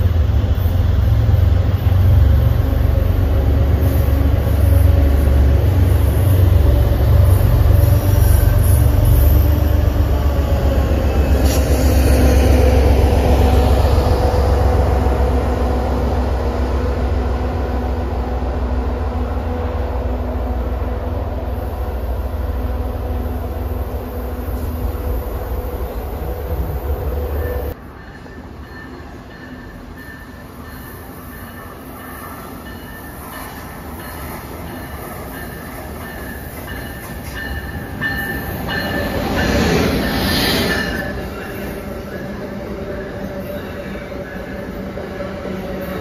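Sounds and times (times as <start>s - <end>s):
train rolling past on track: 0.0s - 46.0s.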